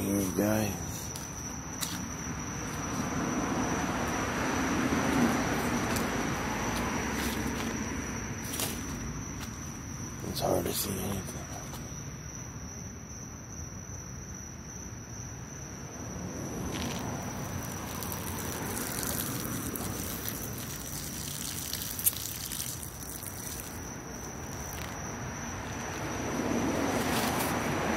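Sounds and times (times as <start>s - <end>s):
high insect trill: 0.0s - 27.9s.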